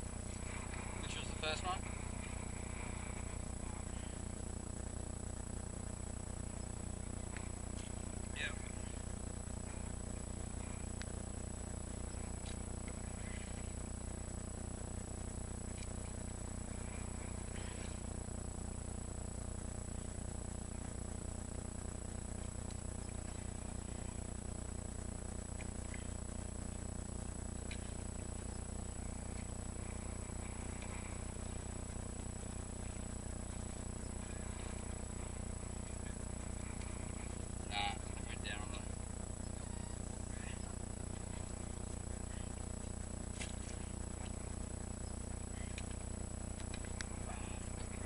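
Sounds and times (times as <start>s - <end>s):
electrical hum: 0.0s - 48.0s
high-pitched whine: 0.0s - 48.0s.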